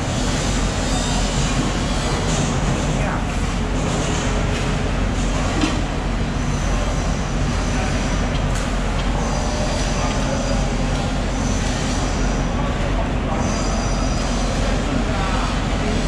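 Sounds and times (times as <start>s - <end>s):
machinery running: 0.0s - 16.0s.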